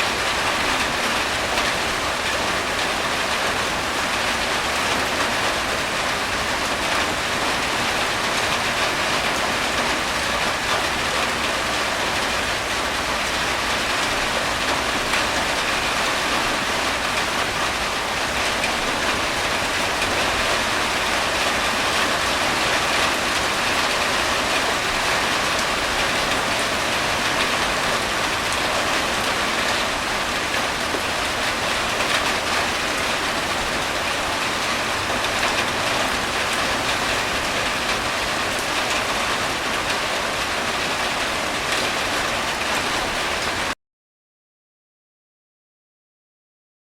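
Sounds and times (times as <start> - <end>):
heavy rain falling: 0.0 - 43.8.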